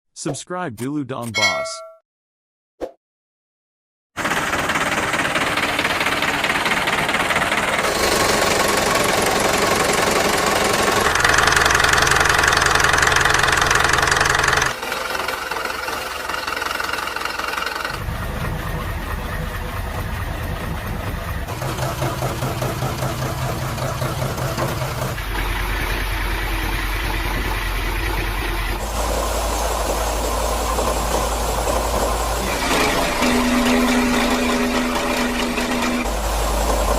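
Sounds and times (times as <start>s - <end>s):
truck diesel engines running: 4.2s - 36.9s.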